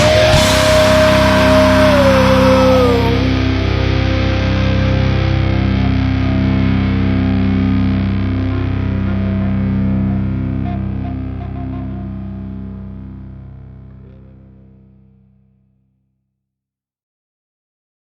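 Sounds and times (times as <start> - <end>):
distorted electric guitar rock: 0.0 - 14.9.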